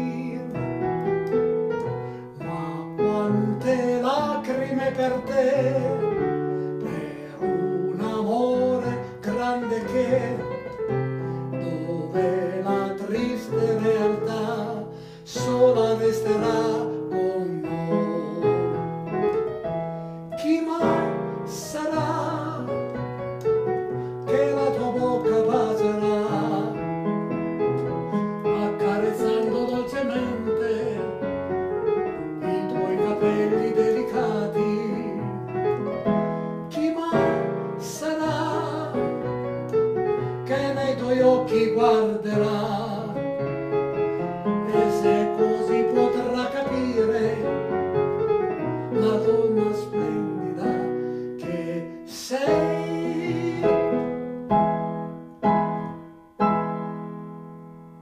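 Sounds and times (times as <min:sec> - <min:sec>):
piano playing slow song: 0:00.0 - 0:58.0.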